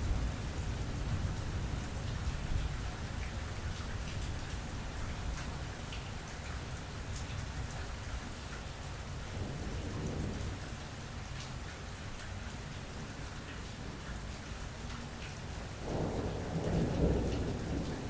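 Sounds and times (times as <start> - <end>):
raindrops ticking on surfaces: 0.0 - 18.0
steady rain falling: 0.0 - 18.0.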